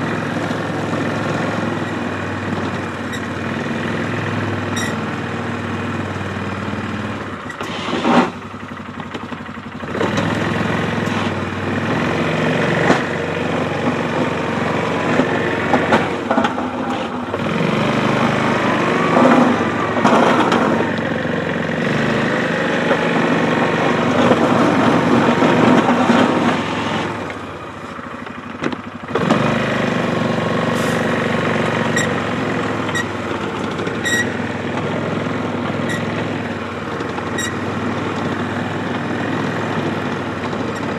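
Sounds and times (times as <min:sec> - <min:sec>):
atv engine under load: 0:00.0 - 0:40.9
plow pushing slush: 0:00.0 - 0:40.9.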